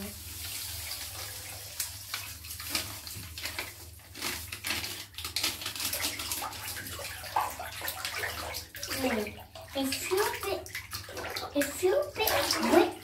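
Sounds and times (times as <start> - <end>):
bath gel squelching and splashing: 0.0 - 13.0.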